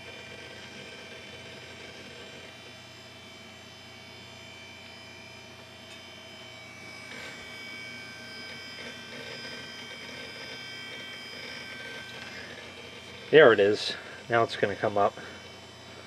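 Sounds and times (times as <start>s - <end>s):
computer fan and drive hum: 0.0s - 16.0s
thin high whines: 0.0s - 16.0s.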